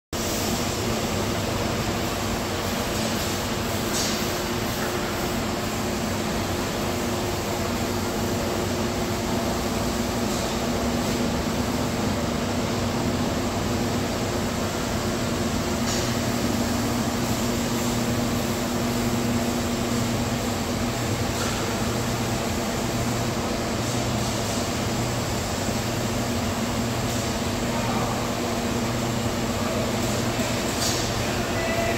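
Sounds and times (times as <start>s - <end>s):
industrial machinery drone: 0.2s - 31.9s.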